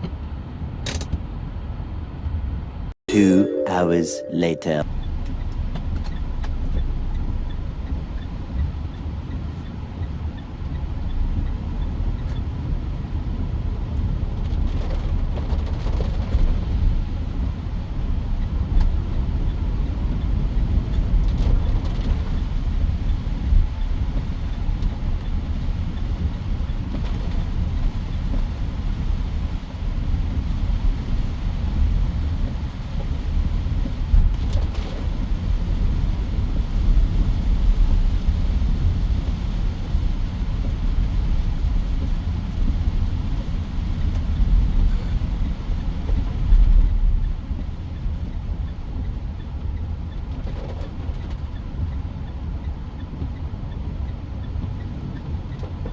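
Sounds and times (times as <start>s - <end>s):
car road and engine rumble: 0.0s - 3.0s, 4.9s - 55.9s.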